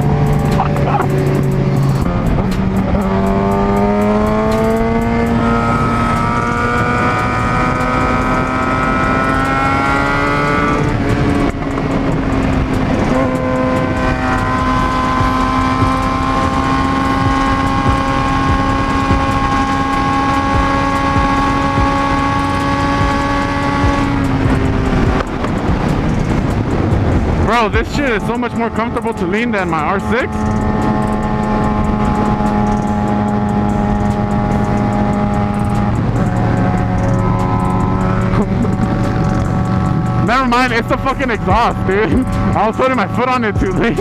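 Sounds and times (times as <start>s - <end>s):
motorcycle engine accelerating: 0.0s - 44.0s
rushing wind noise: 0.0s - 44.0s.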